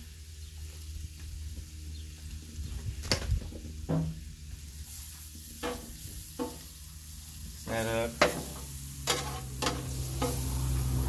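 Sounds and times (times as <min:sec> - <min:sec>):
seafood sizzling on a griddle: 0:00.0 - 0:11.0.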